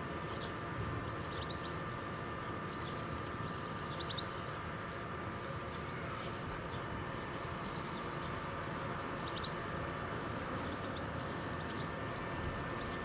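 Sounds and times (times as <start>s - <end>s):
birds chirping: 0.0s - 13.0s
faint high hum: 0.0s - 13.0s.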